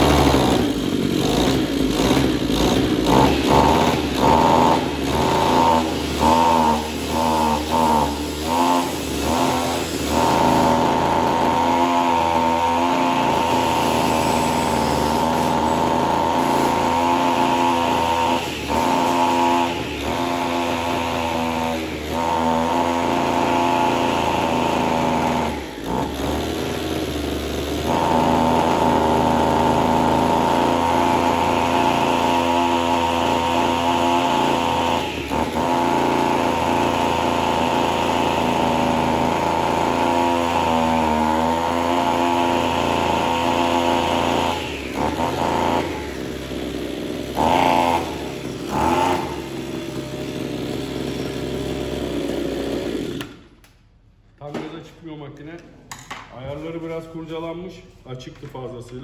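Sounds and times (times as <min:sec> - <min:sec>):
brush cutter engine running: 0:00.0 - 0:53.4.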